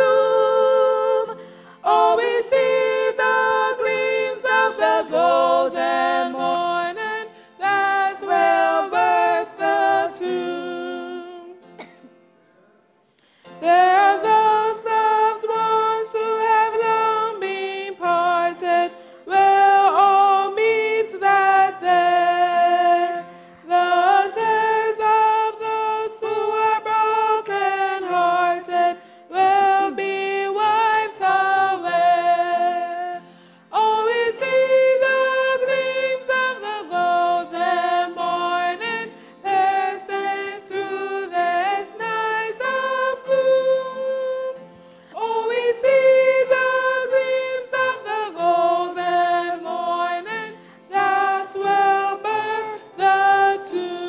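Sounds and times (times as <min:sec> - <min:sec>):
two women singing: 0:00.0 - 0:11.9, 0:13.5 - 0:54.0.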